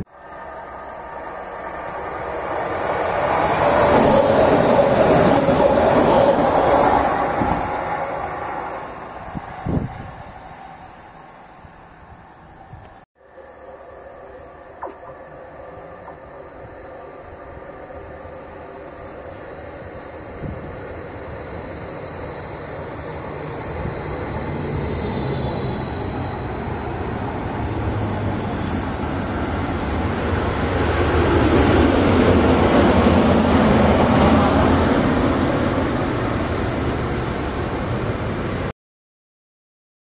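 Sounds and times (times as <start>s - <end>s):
train engine hum: 0.0s - 38.7s.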